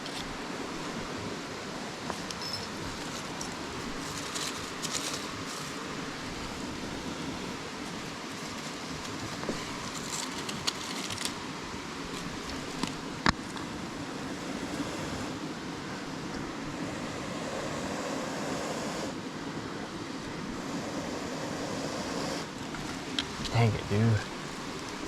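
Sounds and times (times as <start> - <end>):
river water rushing: 0.0 - 10.1, 10.8 - 25.0.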